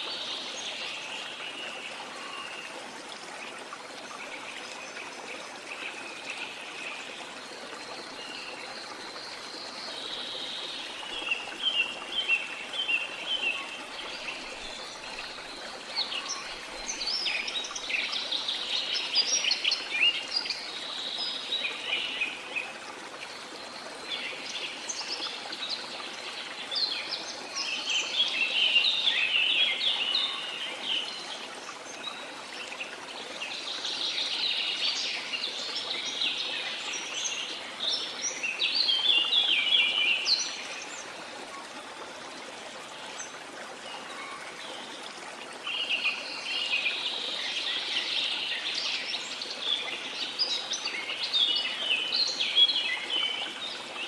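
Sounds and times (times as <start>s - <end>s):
water flowing: 0.0s - 54.0s.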